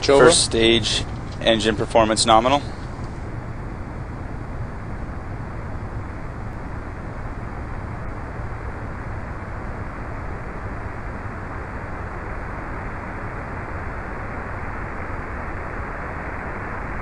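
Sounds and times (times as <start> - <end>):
rocket engine rumble: 0.0 - 17.0.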